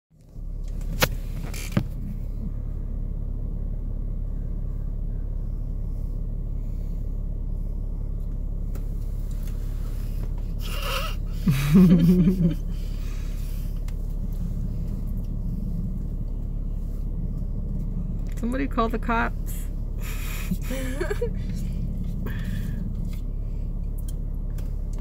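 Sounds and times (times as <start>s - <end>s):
car engine idling: 0.2s - 25.0s.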